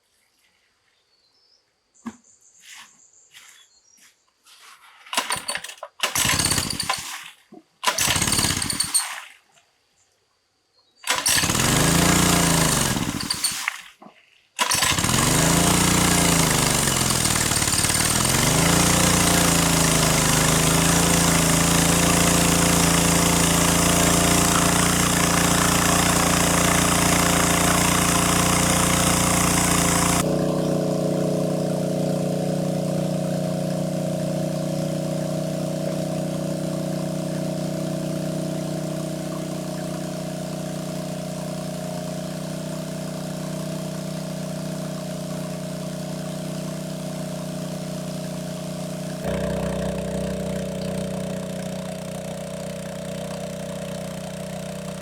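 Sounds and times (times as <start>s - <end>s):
small engine running: 5.1s - 9.2s, 11.0s - 13.9s, 14.6s - 55.0s.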